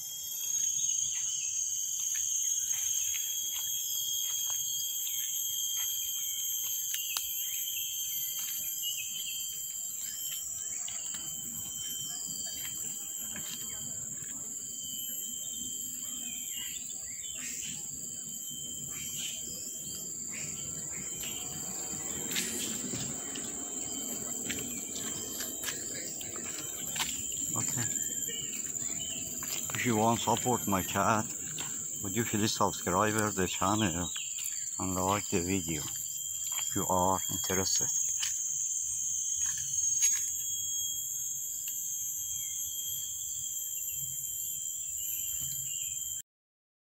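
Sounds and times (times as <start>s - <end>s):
insects buzzing: 0.0s - 46.2s.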